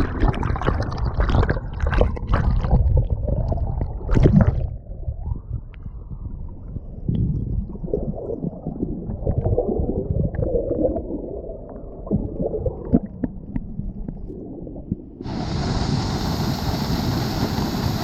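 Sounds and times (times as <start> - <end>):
hot spring water rumbling and gurgling: 0.0 - 13.2, 14.2 - 18.0.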